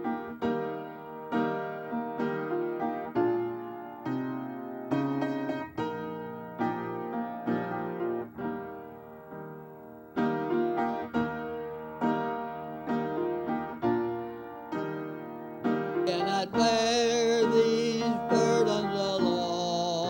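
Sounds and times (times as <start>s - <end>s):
piano playing slow hymn chords: 0.0s - 20.0s.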